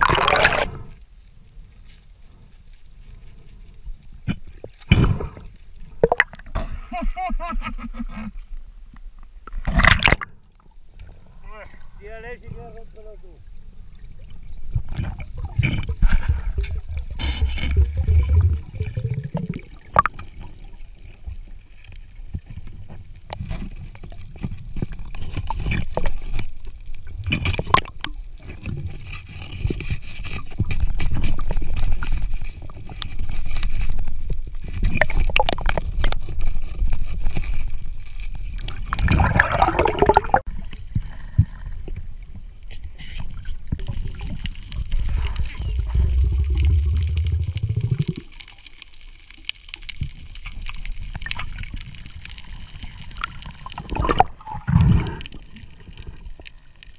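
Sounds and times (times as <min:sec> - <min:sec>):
underwater gurgling and rushing: 0:00.0 - 0:06.9, 0:08.8 - 0:12.0, 0:13.4 - 0:56.9.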